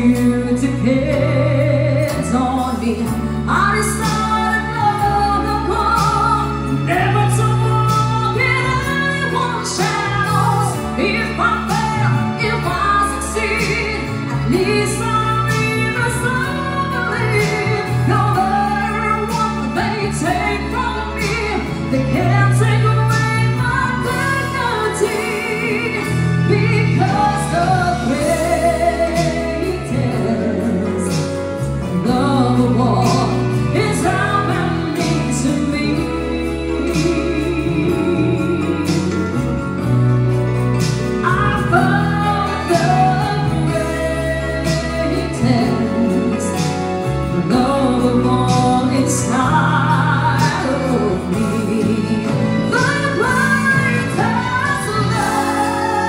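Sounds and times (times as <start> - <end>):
bass line: 0.0 - 56.0
keyboards: 0.0 - 56.0
woman singing into microphone: 0.0 - 56.0.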